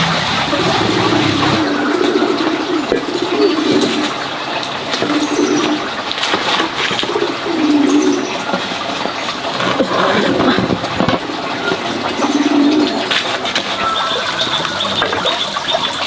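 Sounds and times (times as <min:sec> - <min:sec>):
running water: 0:00.0 - 0:16.0
pigeons cooing: 0:00.5 - 0:16.0.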